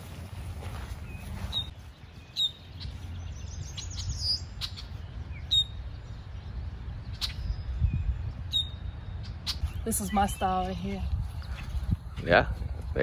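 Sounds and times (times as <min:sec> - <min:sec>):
bird twittering: 0:01.0 - 0:12.3.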